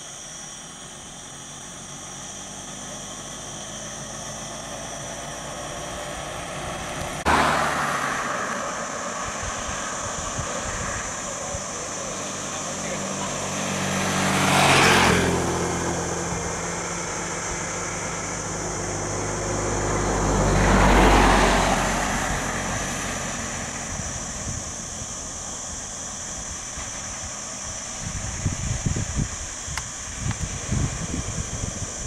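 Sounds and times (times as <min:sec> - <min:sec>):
vehicles passing by: 0:00.0 - 0:32.0.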